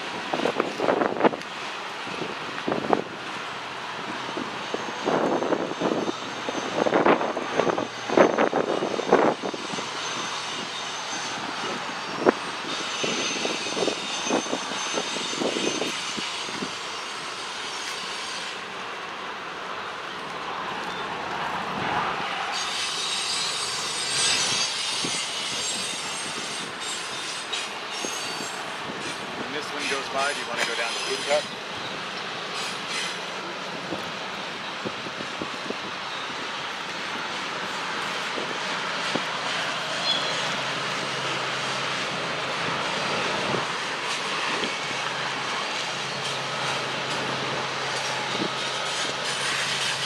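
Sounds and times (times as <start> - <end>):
wind buffeting microphone: 0.0 - 16.8, 23.2 - 30.6, 33.4 - 50.0
freight train rolling on rails: 0.0 - 50.0
wheels squealing: 4.0 - 18.8, 19.8 - 50.0.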